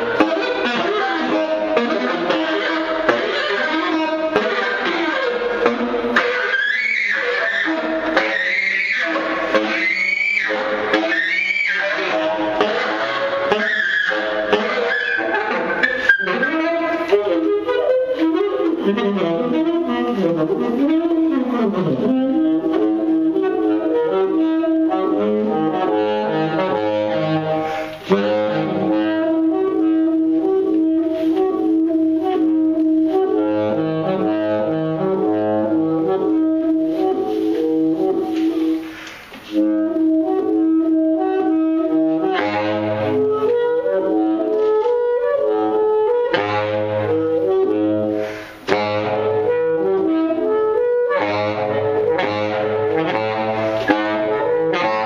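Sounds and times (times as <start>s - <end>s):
saxophone improvisation: 0.0s - 55.0s.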